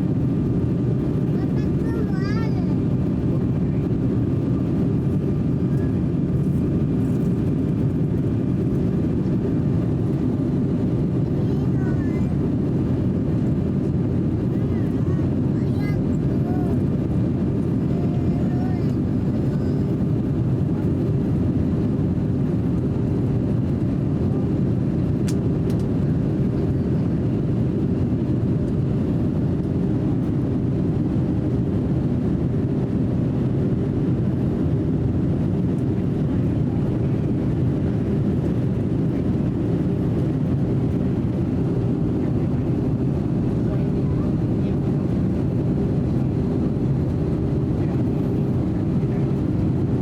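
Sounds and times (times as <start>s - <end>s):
airliner cabin rumble: 0.0s - 50.0s.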